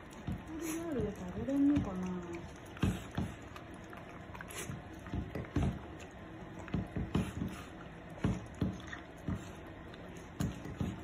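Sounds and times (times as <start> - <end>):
dog chewing and licking: 0.0 - 11.0.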